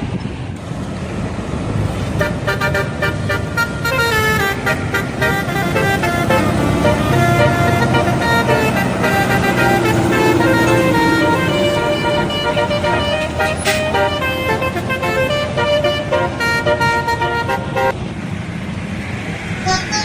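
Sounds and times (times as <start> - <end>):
bus engine rumble: 0.0 - 20.0
bus horn tooting a melody: 2.2 - 17.9, 19.7 - 20.0.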